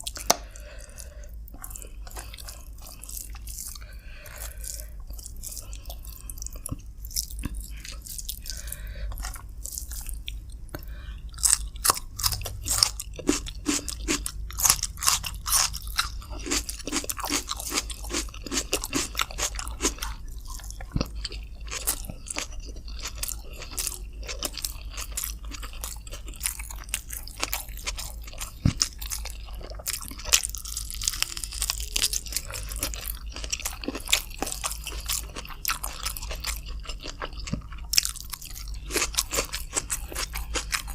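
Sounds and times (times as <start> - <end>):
chewing food: 0.0 - 40.9
steady low hum: 0.0 - 40.9.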